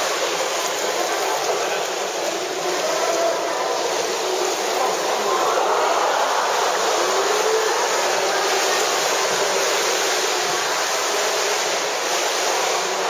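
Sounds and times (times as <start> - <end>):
swimmer splashing in pool: 0.0 - 13.0.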